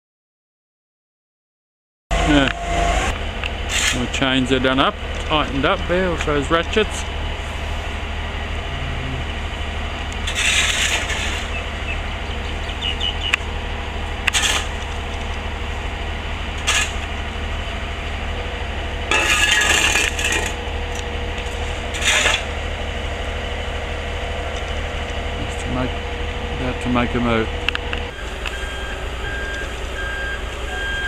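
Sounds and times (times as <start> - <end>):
truck engine idling: 2.1 - 31.0.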